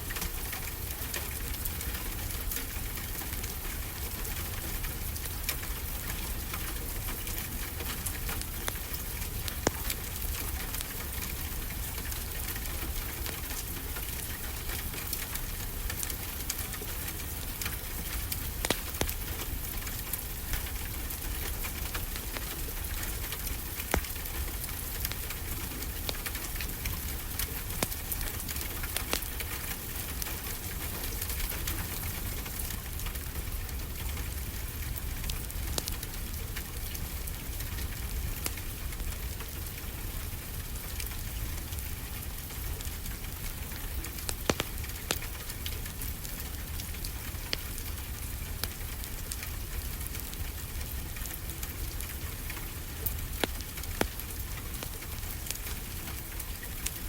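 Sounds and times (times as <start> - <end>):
fireplace crackling and popping: 0.0 - 57.0.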